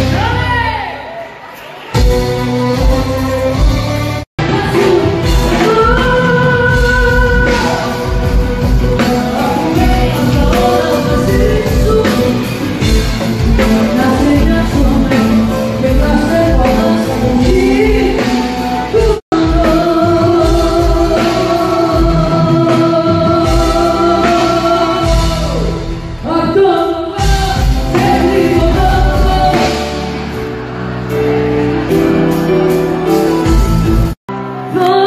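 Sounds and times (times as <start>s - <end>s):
amplified band with steady beat: 0.0s - 35.0s
person singing: 2.5s - 35.0s.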